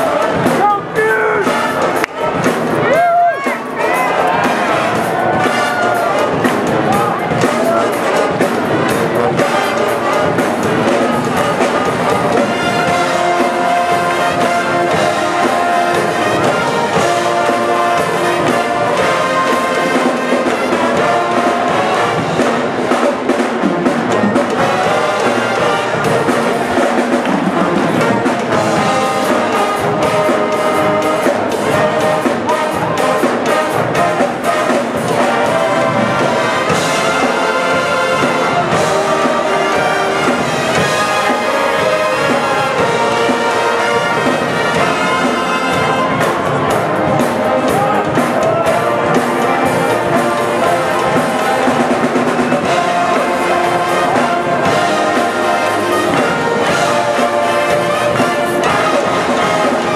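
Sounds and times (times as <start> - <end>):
pep band playing brass tune: 0.0 - 59.9.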